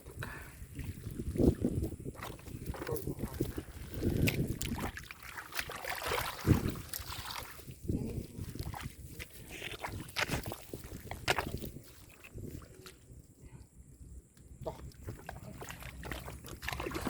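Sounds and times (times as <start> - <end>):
muddy water sloshing and splashing: 0.3 - 13.2, 14.6 - 17.0.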